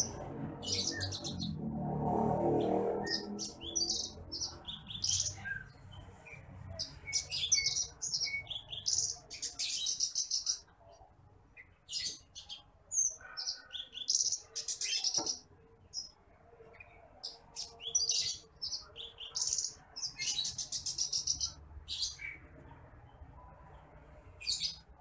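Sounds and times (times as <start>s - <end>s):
songbird twittering and trilling: 0.0s - 1.6s, 3.0s - 23.5s.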